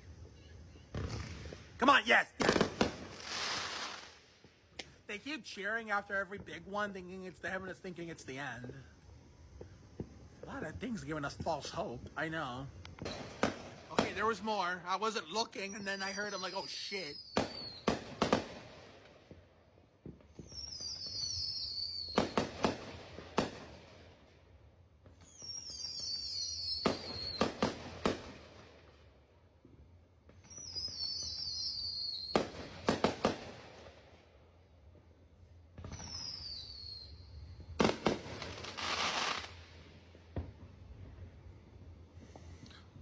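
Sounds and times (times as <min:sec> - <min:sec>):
firework bangs: 0:00.9 - 0:08.8, 0:09.5 - 0:24.1, 0:25.2 - 0:28.9, 0:30.3 - 0:34.0, 0:35.7 - 0:41.5.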